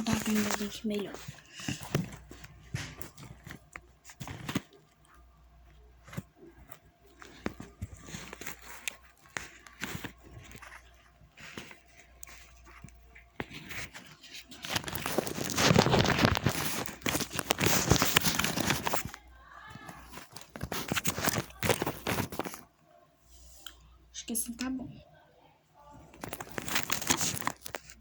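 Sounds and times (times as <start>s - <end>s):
handling rustling and crinkling: 0.0s - 22.9s, 26.0s - 28.0s.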